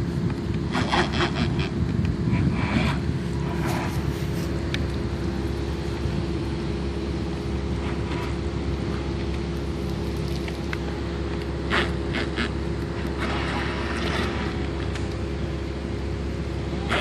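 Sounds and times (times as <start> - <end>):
motors and water pumps humming: 0.0 - 17.0.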